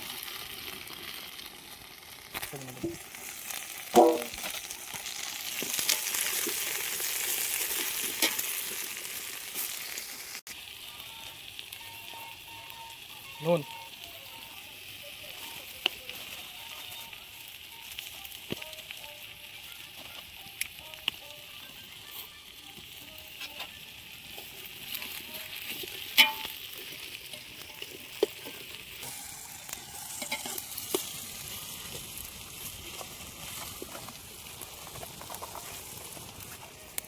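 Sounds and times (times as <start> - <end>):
spices sizzling in hot oil: 0.0 - 37.0.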